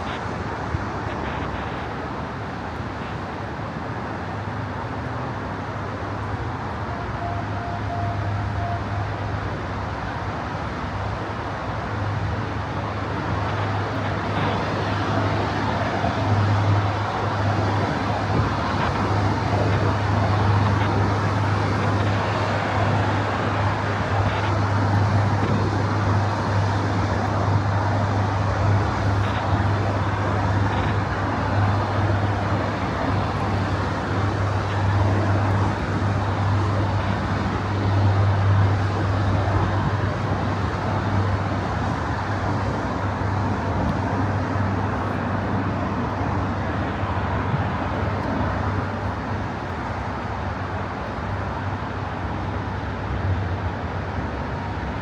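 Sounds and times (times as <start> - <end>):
constant low hum: 0.0 - 55.0
vehicles passing: 0.0 - 55.0.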